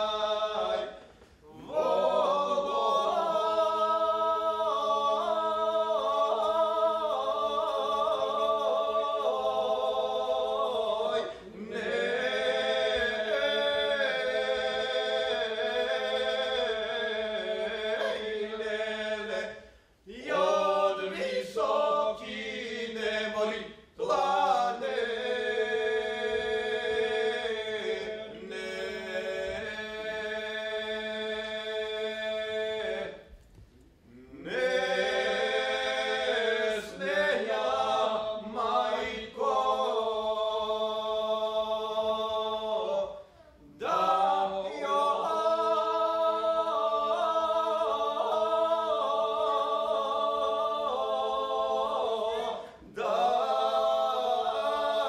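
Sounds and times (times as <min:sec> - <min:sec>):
male vocal trio singing a cappella: 0:00.0 - 0:33.4, 0:34.0 - 0:55.0.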